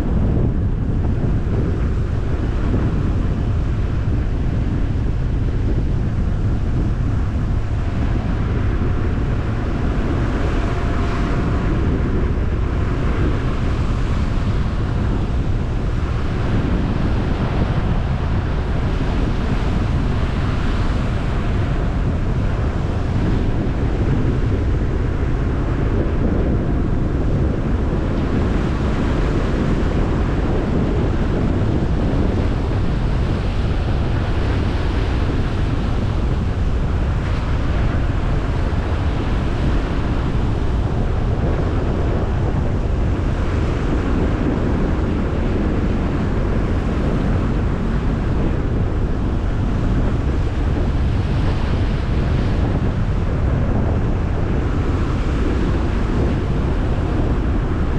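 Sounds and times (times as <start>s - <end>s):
tyre road rumble: 0.0s - 57.9s
wind noise: 0.0s - 57.9s.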